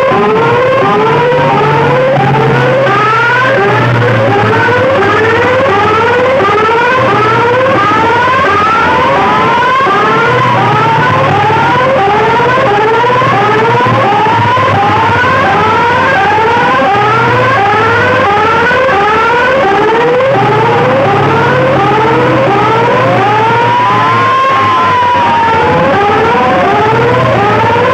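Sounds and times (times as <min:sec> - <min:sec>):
electronic siren sweeps: 0:00.0 - 0:27.9
low bass tone: 0:00.0 - 0:27.9
wailing electronic tone: 0:00.0 - 0:27.9.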